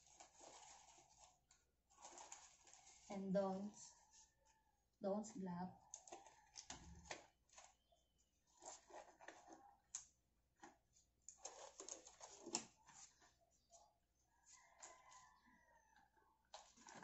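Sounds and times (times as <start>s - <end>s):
rubber gloves rustling and crackling: 0.0s - 4.7s, 5.8s - 15.4s, 16.5s - 17.0s.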